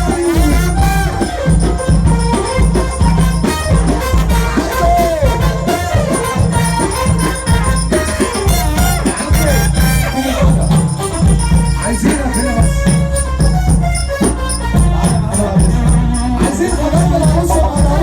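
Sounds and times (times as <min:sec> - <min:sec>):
dance music with heavy bass: 0:00.0 - 0:18.0
wavering synth melody: 0:00.0 - 0:18.0.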